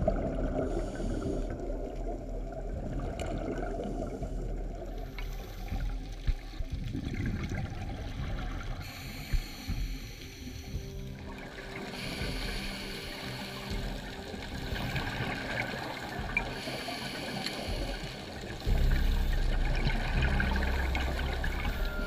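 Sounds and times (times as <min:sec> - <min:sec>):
underwater motor hum: 0:00.0 - 0:22.0
underwater regulator bubbles: 0:00.0 - 0:22.0.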